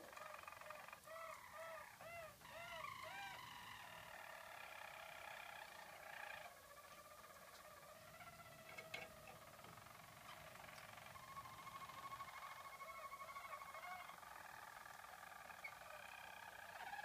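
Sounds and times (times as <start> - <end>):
canaries singing trills: 0.0 - 17.0.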